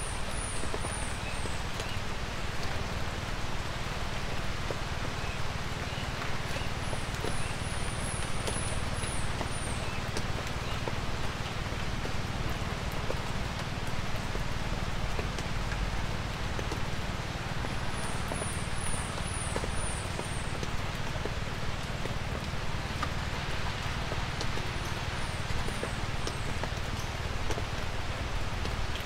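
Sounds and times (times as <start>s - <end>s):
light rain falling: 0.0s - 29.0s.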